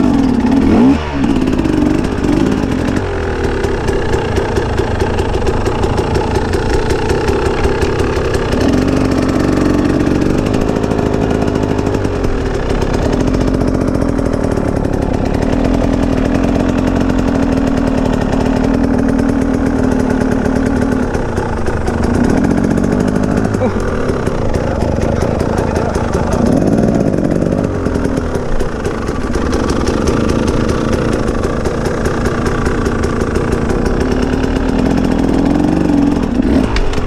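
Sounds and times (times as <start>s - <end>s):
motorcycle engine at low revs: 0.0s - 37.0s.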